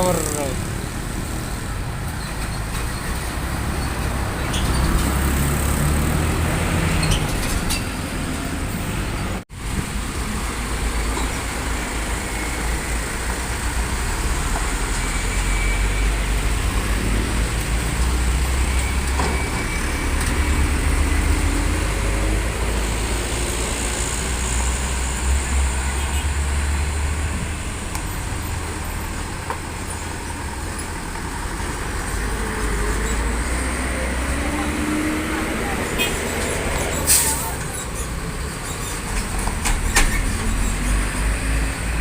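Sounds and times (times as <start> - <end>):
heavy road traffic: 0.0 - 42.0.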